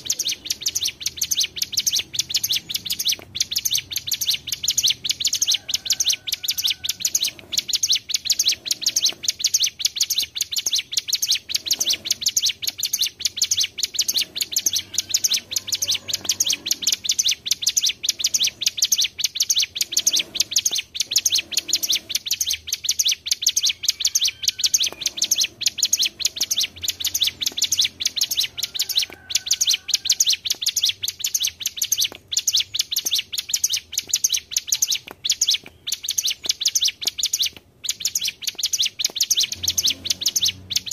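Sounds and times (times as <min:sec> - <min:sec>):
birds singing fast high trill: 0:00.0 - 0:40.9.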